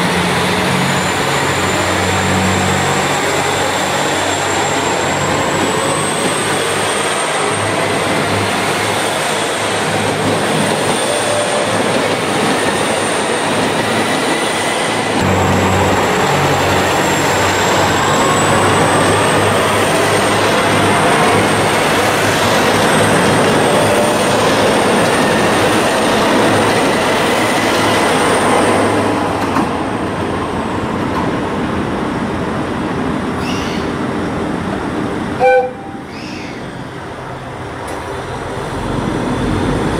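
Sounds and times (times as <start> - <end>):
diesel train running past: 0.0 - 39.9.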